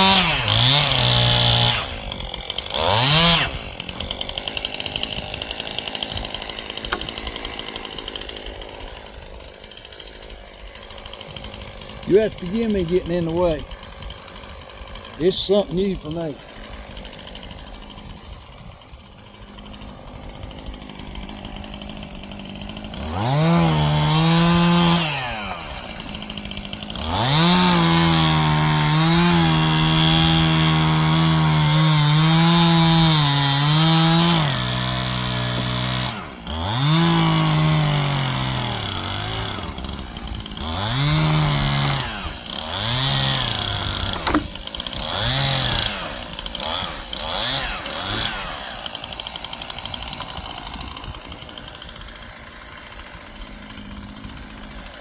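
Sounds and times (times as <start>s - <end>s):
chainsaw cutting wood: 0.0s - 55.0s
chainsaw idling and revving: 0.0s - 55.0s.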